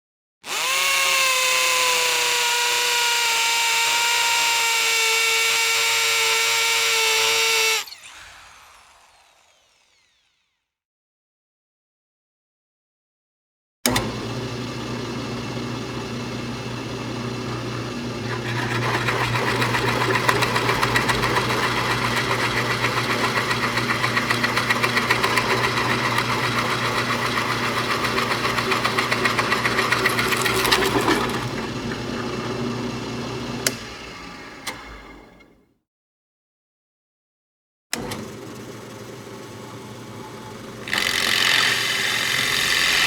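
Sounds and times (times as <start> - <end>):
electric hammer drill: 0.4 - 10.7, 13.9 - 35.2, 37.9 - 43.0.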